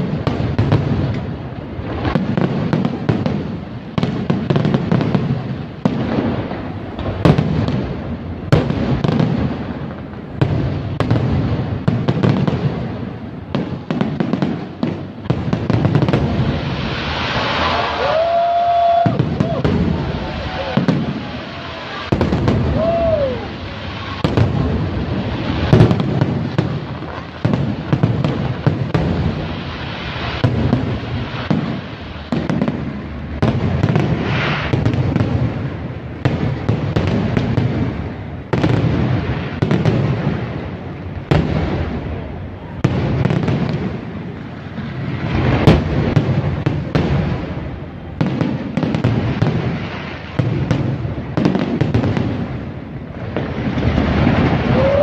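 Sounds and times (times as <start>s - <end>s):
fireworks bursting and crackling: 0.0s - 55.0s
sharp fireworks bangs: 0.0s - 55.0s.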